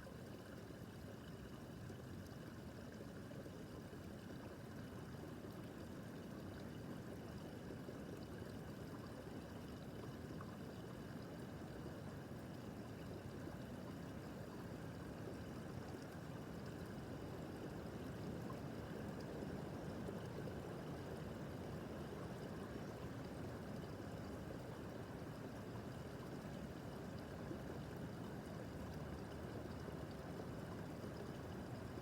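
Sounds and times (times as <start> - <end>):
brook babbling over stones: 0.0 - 32.0.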